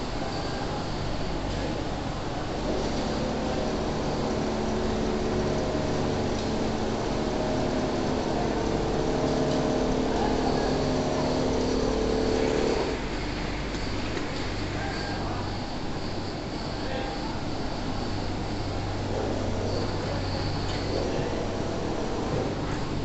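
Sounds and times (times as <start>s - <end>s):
quilting machine humming: 0.0s - 16.5s, 17.7s - 23.0s
factory noise: 0.0s - 23.0s.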